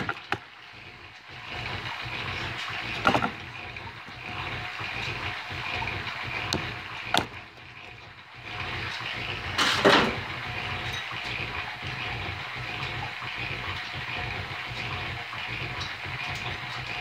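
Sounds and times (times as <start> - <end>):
drill press cutting steel: 0.0 - 17.0.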